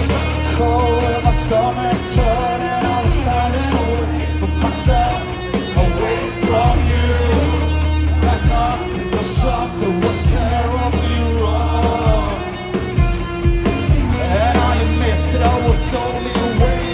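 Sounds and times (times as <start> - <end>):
person singing: 0.0 - 12.9, 14.0 - 16.9
live rock band: 0.0 - 16.9.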